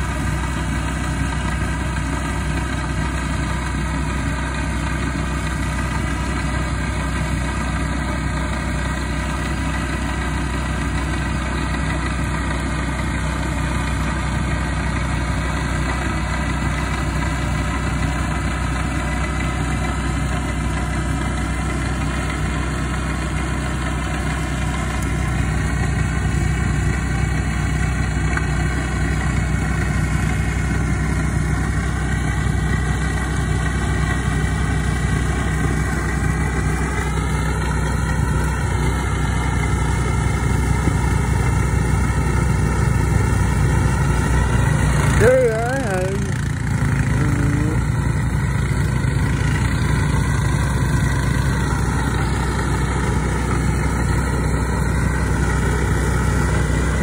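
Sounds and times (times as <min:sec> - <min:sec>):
small petrol engine running: 0:00.0 - 0:57.0.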